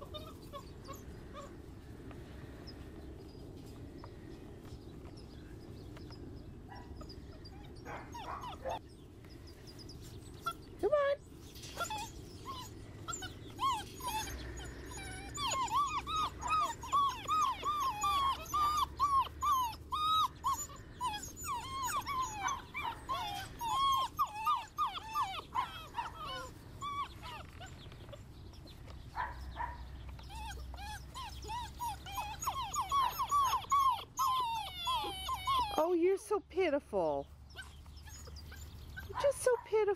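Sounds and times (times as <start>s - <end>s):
puppies whining and whimpering: 0.0s - 36.1s, 37.4s - 39.6s.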